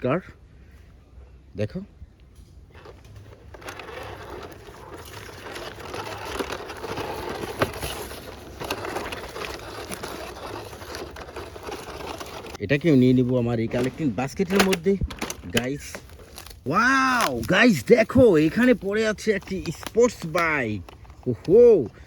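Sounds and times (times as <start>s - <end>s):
rustling handling noise: 2.2s - 22.0s.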